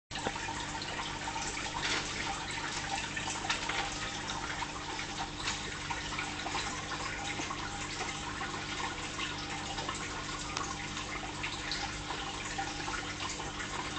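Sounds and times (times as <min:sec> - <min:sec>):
pump humming: 0:00.1 - 0:13.9
water bubbling and trickling: 0:00.1 - 0:13.9.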